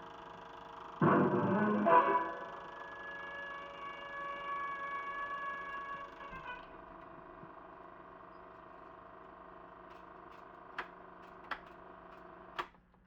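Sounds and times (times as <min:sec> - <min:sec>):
film projector hum and hiss: 0:00.0 - 0:01.7, 0:02.5 - 0:13.0.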